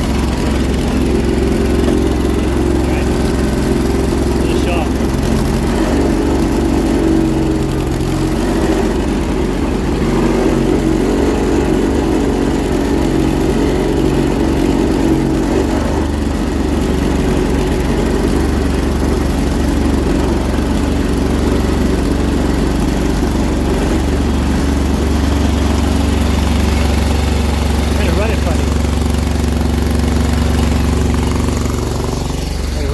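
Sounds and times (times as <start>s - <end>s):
garden tractor engine running: 0.0s - 32.9s.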